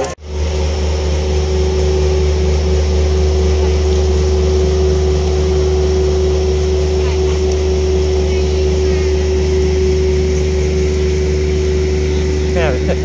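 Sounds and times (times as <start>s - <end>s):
motor humming: 0.0s - 13.0s
steady tone: 0.0s - 13.0s.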